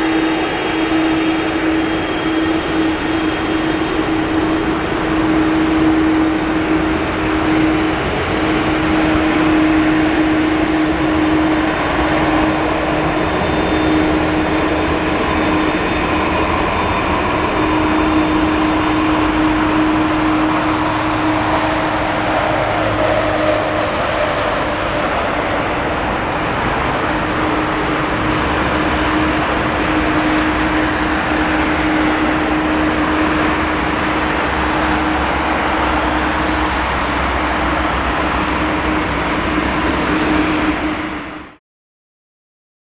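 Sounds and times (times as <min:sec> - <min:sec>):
constant hum: 0:00.0 - 0:41.5
jet engines roaring: 0:00.0 - 0:41.6.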